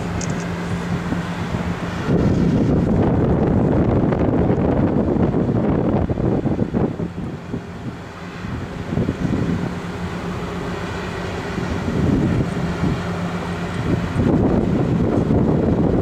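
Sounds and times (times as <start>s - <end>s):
ship engines droning: 0.0s - 16.0s
wind buffeting microphone: 0.0s - 16.0s.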